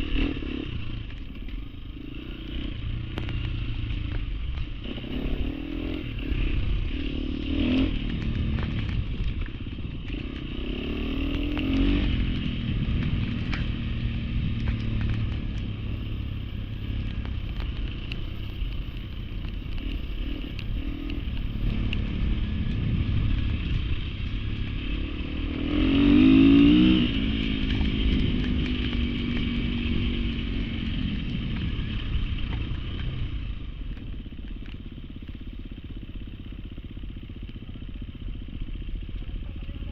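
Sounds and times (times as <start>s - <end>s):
trail motorcycle engine revving: 0.0s - 39.9s.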